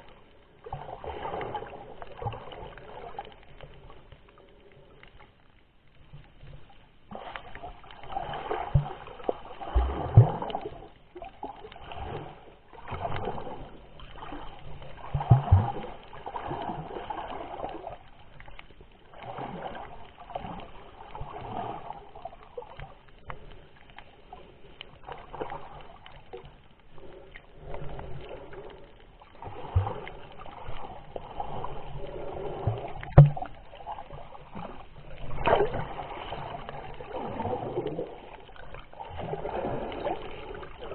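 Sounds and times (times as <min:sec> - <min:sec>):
muffled water sloshing: 0:00.0 - 0:40.9.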